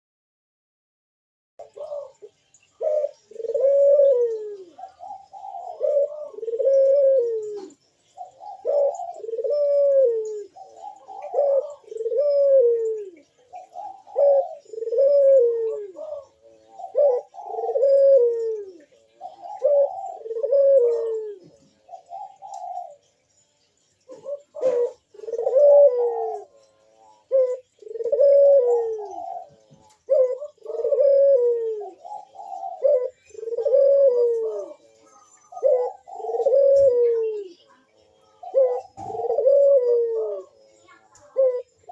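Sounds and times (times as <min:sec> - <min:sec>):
dove cooing: 0:01.6 - 0:23.1, 0:24.0 - 0:41.9.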